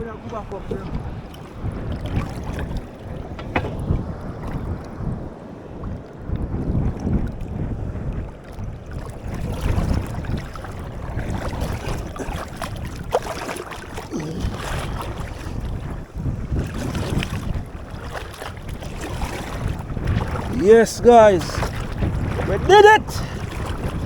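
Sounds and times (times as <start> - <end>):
water splashing around boat: 0.0 - 24.0
wind buffeting microphone: 0.0 - 24.0.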